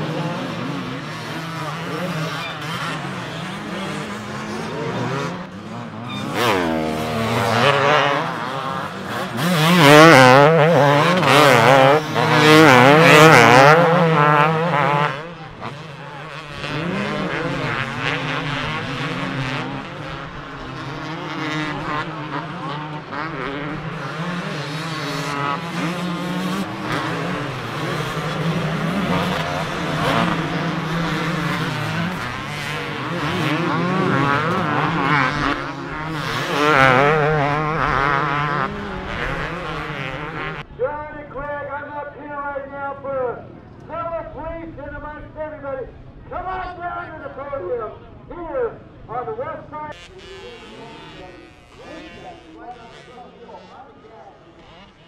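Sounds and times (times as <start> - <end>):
motocross bikes revving: 0.0 - 40.7, 49.0 - 55.0.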